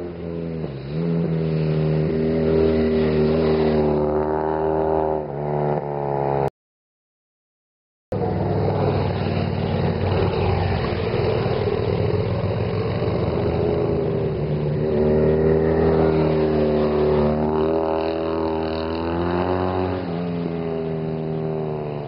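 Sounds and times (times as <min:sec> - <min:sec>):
motorcycles passing: 0:00.0 - 0:06.5, 0:08.2 - 0:22.0.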